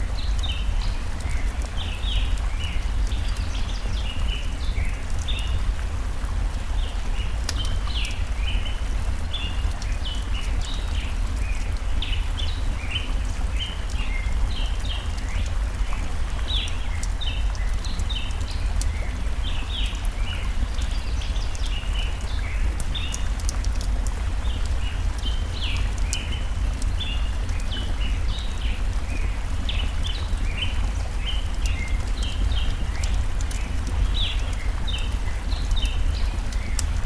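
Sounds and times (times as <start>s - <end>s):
campfire crackling: 0.0s - 37.0s
flowing stream: 0.0s - 37.0s.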